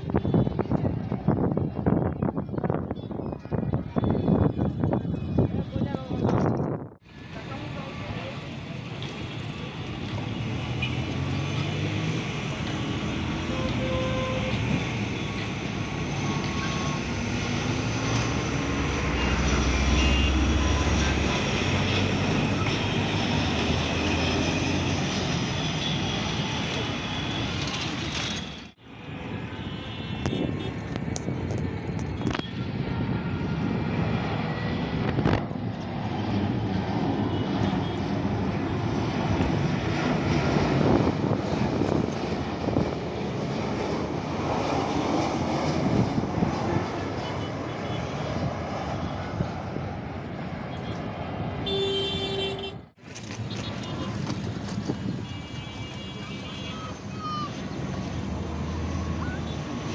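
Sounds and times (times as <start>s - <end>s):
jet engines on approach: 0.0s - 59.9s.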